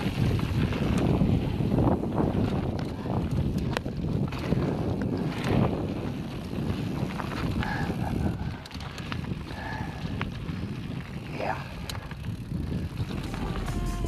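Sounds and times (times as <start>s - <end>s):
bike clicks and rattles: 0.0s - 14.0s
wind rushing over microphone: 0.0s - 14.0s.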